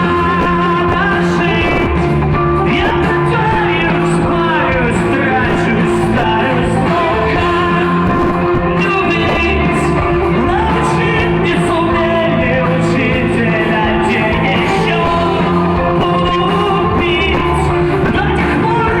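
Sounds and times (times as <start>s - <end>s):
person singing: 0.0s - 19.0s
rock band playing: 0.0s - 19.0s.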